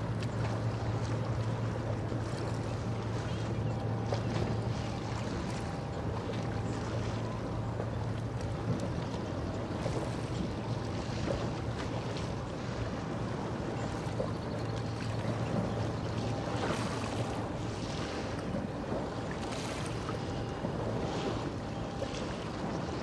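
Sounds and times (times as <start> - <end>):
rushing water: 0.0 - 23.0
ship engine hum: 0.0 - 23.0.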